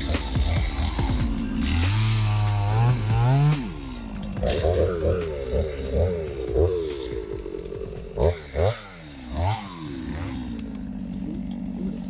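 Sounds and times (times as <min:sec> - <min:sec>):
chainsaw revving and idling: 0:00.0 - 0:12.0.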